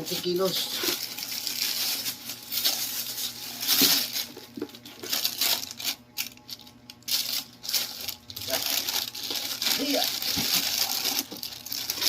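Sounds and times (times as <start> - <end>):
packing material rustling: 0.0 - 12.0.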